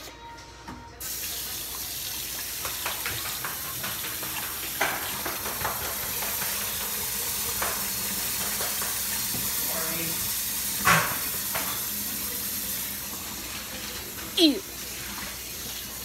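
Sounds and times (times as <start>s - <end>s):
water running into steel sink: 1.0s - 16.0s.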